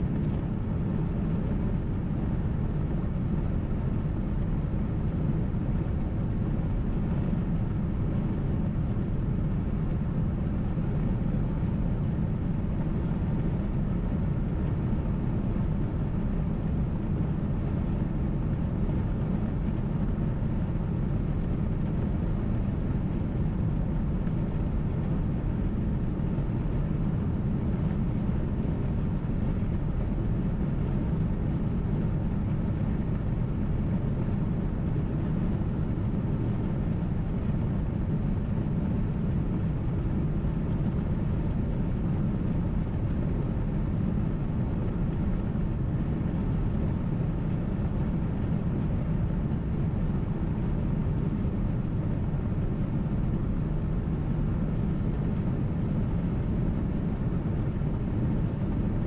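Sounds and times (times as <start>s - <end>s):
car cabin road rumble: 0.0s - 58.9s.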